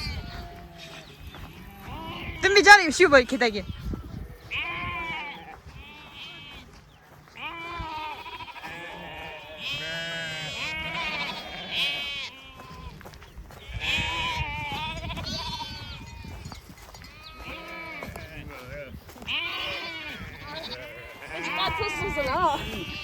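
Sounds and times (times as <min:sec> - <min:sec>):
sheep and goats bleating: 0:00.0 - 0:23.0.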